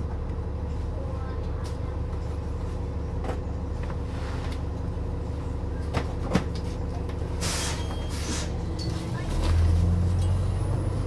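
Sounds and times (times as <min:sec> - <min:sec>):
bus engine low hum: 0:00.0 - 0:11.0.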